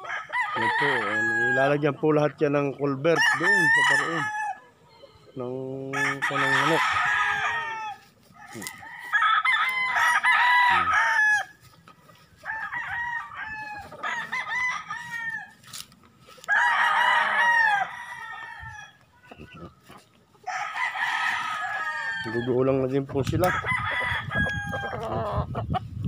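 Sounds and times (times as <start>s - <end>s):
roosters crowing: 0.0s - 25.9s.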